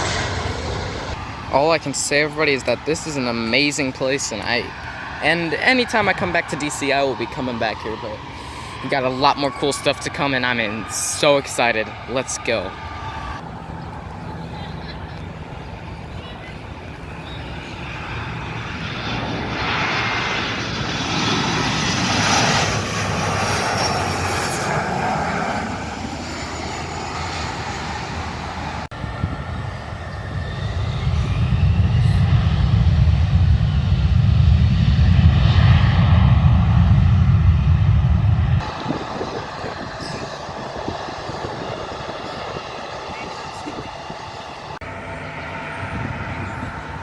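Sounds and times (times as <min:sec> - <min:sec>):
jet airliner passing overhead: 0:00.0 - 0:47.0
jet engine whine: 0:00.0 - 0:47.0.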